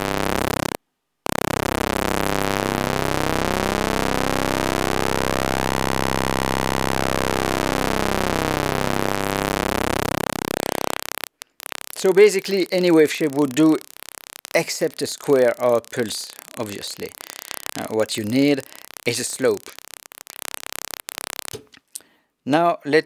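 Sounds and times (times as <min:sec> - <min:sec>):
buzzing synth tone: 0:00.0 - 0:21.6.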